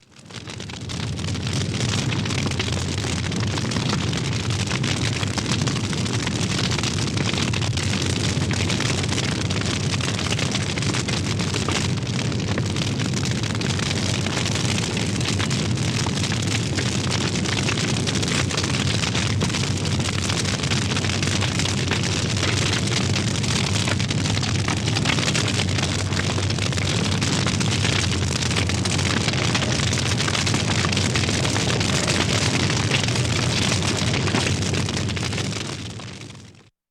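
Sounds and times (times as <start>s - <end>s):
fire roaring and crackling: 0.1s - 36.5s.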